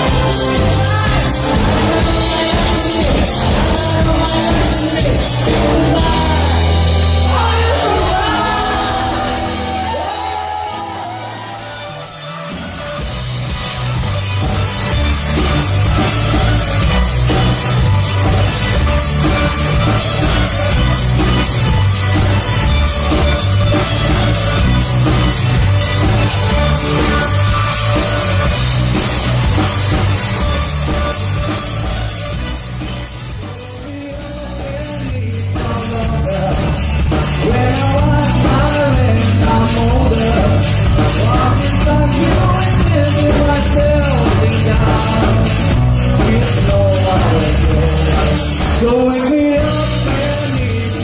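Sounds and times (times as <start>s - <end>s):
heavy bass line: 0.0s - 51.0s
rock band playing: 0.0s - 51.0s.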